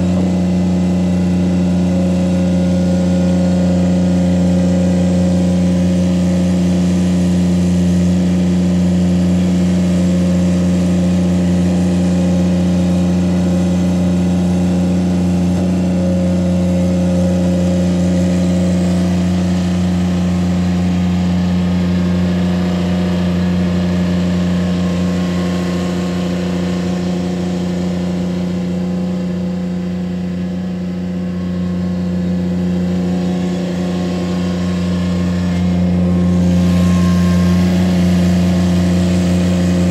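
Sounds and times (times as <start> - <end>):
mini skid steer engine running: 0.0 - 39.9.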